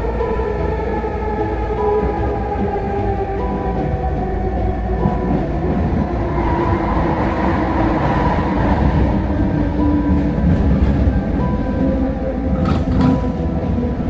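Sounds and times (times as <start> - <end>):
train drive whining: 0.0 - 14.0
train wheels rumbling on rail: 0.0 - 14.0.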